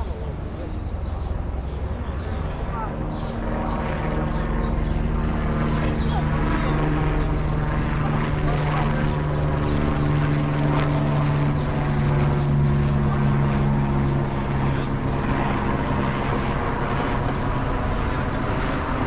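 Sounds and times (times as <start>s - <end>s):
steady engine drone: 0.0s - 19.0s.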